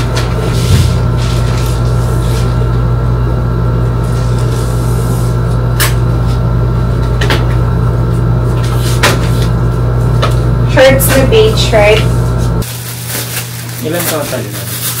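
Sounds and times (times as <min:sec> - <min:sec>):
low hum: 0:00.0 - 0:12.7.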